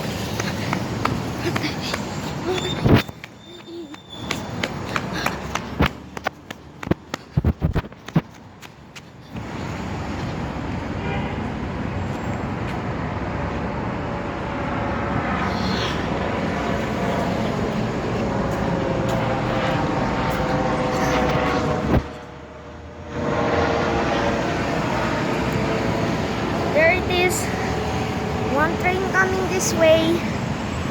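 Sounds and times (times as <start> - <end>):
loud vehicle noise with whine: 0.0 - 30.9.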